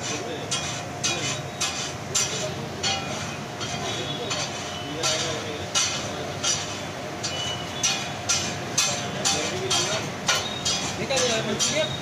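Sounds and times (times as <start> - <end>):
metal utensils clinking: 0.1 - 12.0.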